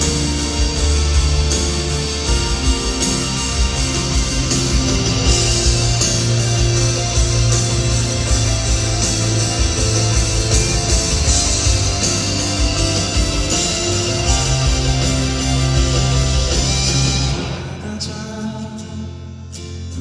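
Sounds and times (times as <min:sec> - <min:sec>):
bass and drums: 0:00.0 - 0:18.3
electric guitar: 0:00.0 - 0:20.0.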